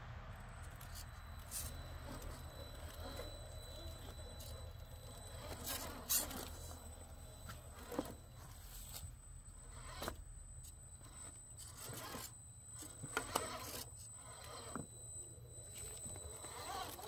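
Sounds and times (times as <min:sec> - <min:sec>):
rc car motor whirring: 0:00.4 - 0:17.0.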